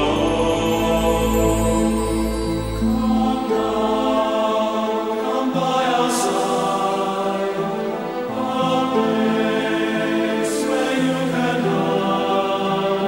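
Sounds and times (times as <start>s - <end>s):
slow choral singing: 0.0s - 13.0s.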